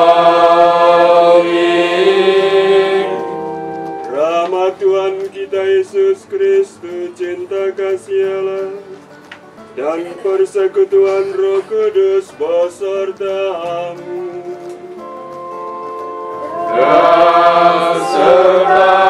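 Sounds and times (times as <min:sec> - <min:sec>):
held hymn chord: 0:00.0 - 0:19.0.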